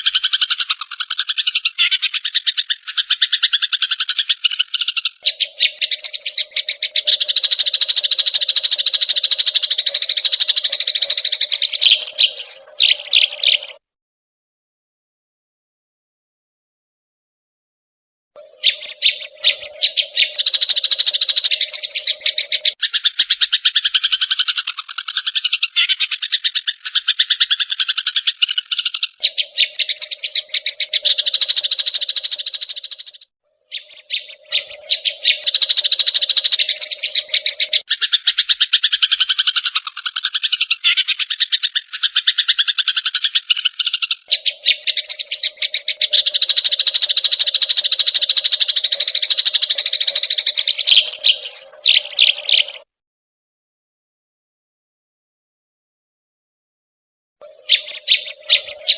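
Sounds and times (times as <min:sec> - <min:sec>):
sparrows chirping harshly: 0:00.0 - 0:13.8, 0:18.4 - 0:52.9, 0:57.4 - 0:58.9.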